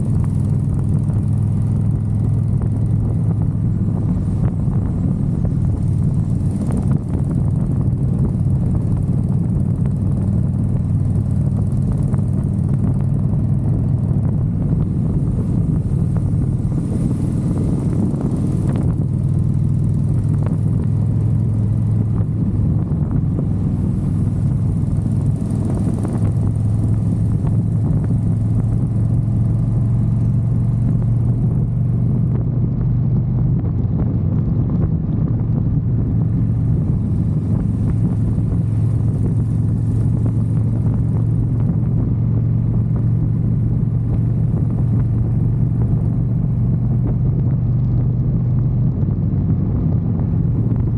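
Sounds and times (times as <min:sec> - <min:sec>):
motorcycle engine running: 0:00.0 - 0:50.9
wind rumbling over microphone: 0:00.0 - 0:50.9.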